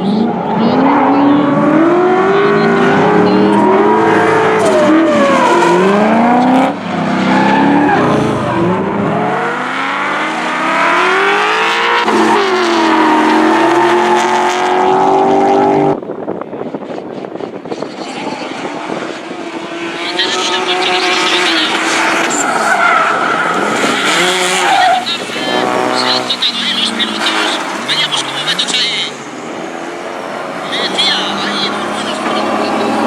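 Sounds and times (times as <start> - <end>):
car engine revving hard: 0.0 - 16.0, 17.7 - 33.0.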